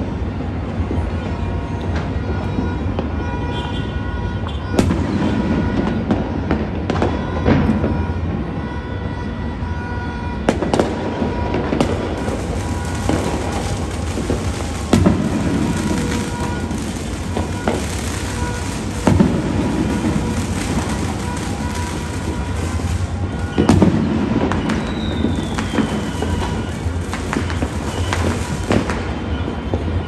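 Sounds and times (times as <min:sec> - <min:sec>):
distant fireworks bangs and crackling: 0:00.0 - 0:30.0
loud sharp firework bangs: 0:04.6 - 0:30.0.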